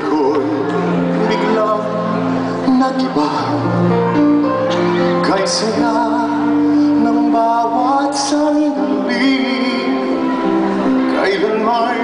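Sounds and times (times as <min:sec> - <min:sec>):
live band playing: 0:00.0 - 0:12.0
man singing with vibrato: 0:00.0 - 0:12.0.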